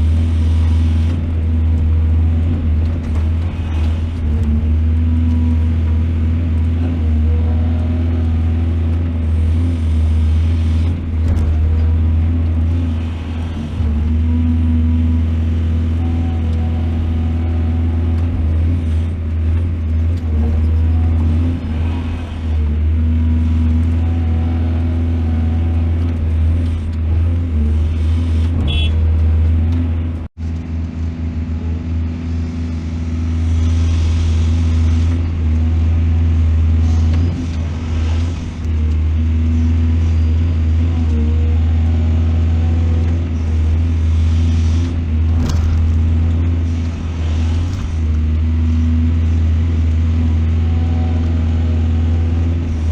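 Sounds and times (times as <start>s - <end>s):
excavator diesel engine humming: 0.0s - 52.9s.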